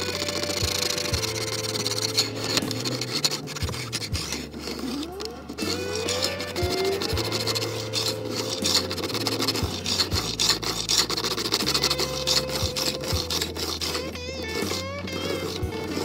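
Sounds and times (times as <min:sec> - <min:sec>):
file rasping on metal: 0:00.0 - 0:16.0.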